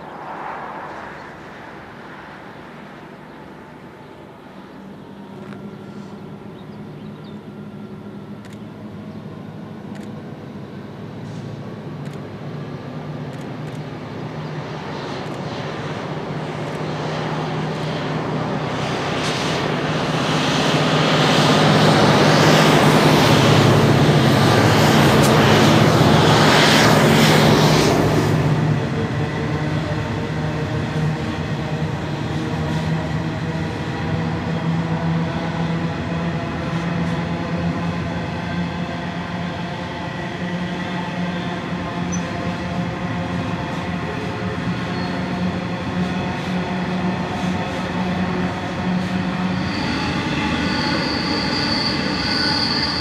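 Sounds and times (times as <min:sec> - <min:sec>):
diesel locomotives passing: 0:00.0 - 0:53.0.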